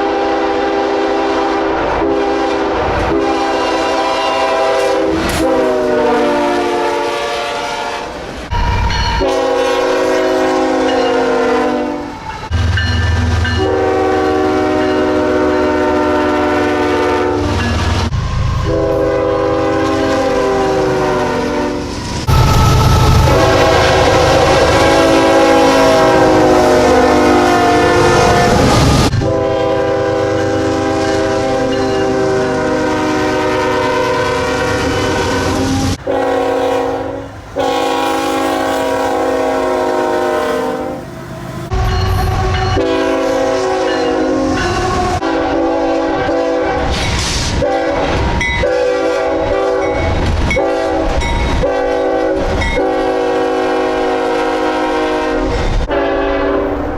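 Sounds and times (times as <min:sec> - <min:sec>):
locomotive air horn blasts: 0:00.0 - 0:08.2, 0:09.2 - 0:12.6, 0:13.3 - 0:56.9.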